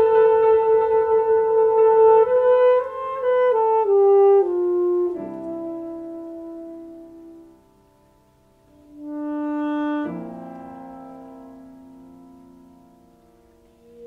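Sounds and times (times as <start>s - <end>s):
solo saxophone: 0.0s - 7.6s, 8.7s - 12.8s, 13.4s - 14.0s.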